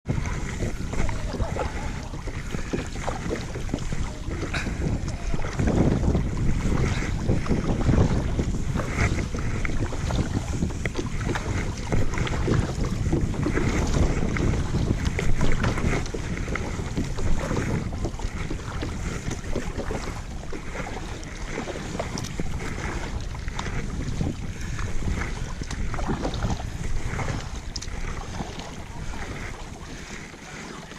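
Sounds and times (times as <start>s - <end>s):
small water splashes: 0.0s - 30.9s
wind buffeting microphone: 0.0s - 30.9s.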